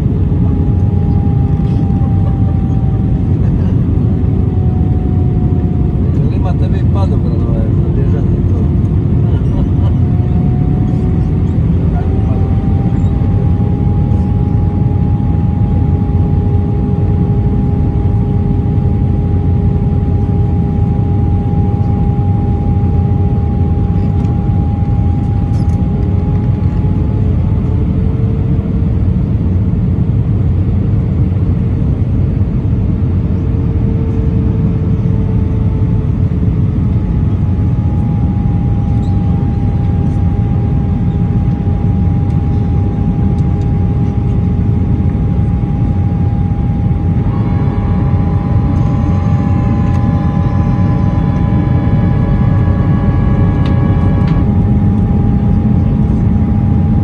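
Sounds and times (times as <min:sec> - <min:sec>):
high engine hum: 0:00.0 - 0:57.0
jet engines and airflow rushing: 0:00.0 - 0:57.0
low engine hum: 0:00.0 - 0:57.0.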